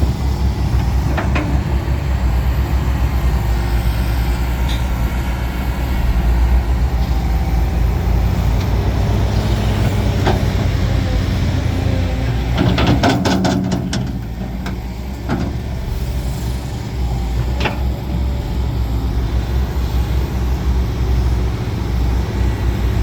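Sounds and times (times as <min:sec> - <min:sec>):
heavy diesel machinery rumbling: 0:00.0 - 0:23.0.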